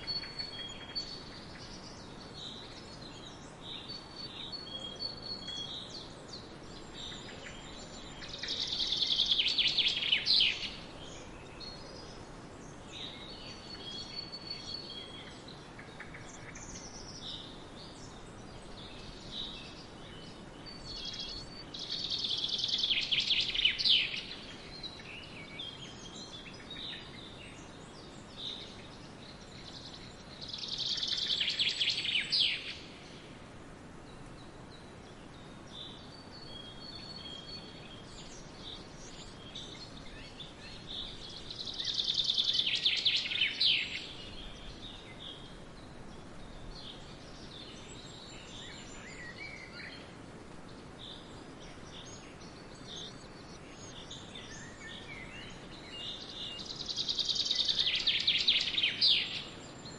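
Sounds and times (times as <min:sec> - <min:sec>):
faint background hiss: 0:00.0 - 0:59.9
forest birds singing: 0:00.0 - 0:59.9.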